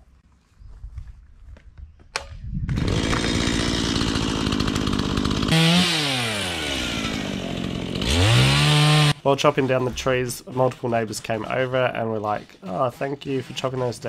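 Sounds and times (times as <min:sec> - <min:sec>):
chainsaw engine running: 0:02.7 - 0:14.0.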